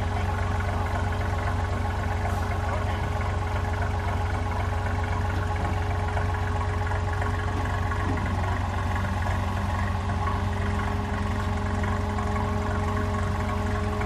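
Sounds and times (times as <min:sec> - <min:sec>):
diesel bus engine idling: 0:00.0 - 0:14.0.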